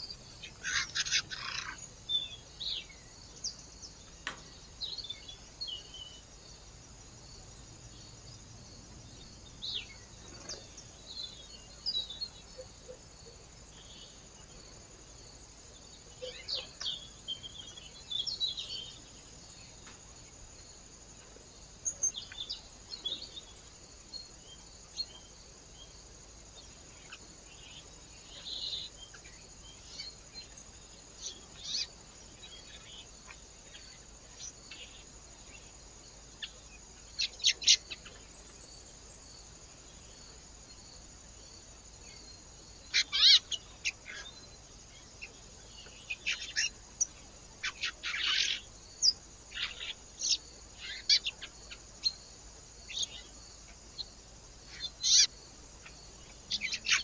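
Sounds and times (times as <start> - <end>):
faint high hiss: 0.0 - 57.0
small birds chirping: 0.0 - 57.0.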